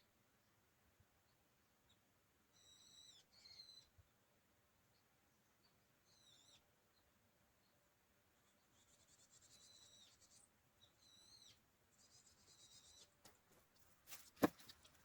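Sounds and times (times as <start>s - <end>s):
small bird chirping: 1.2s - 4.2s, 4.9s - 15.0s.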